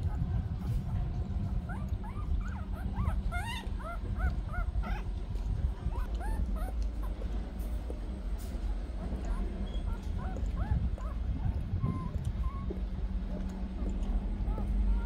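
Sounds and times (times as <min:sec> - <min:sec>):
puppies squeaking and whimpering: 0:00.0 - 0:07.2, 0:09.1 - 0:12.9, 0:13.8 - 0:15.0
low rumble: 0:00.0 - 0:15.0.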